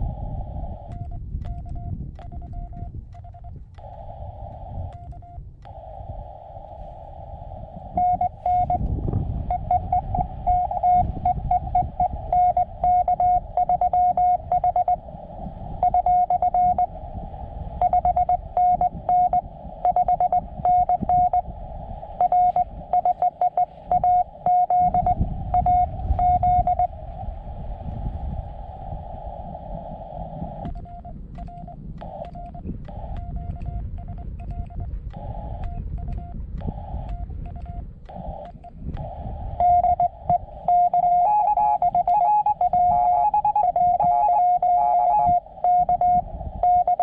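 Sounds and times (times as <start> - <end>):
low rumble: 0.0 - 47.0
receiver hiss: 0.0 - 47.0
morse code beeps: 0.8 - 4.0, 4.8 - 5.8, 7.9 - 15.1, 15.8 - 16.9, 17.8 - 21.5, 22.1 - 26.9, 30.5 - 47.0.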